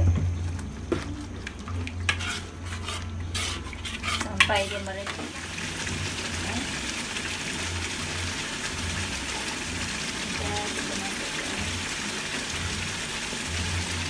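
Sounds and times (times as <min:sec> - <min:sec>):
sauce sizzling in a wok: 0:02.1 - 0:14.0.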